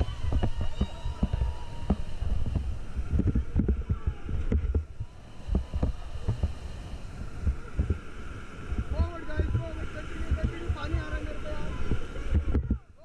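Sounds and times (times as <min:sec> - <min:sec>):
low rumble: 0:00.0 - 0:13.0
rushing river water: 0:00.0 - 0:13.0
water and paddles slapping boat: 0:00.0 - 0:13.0.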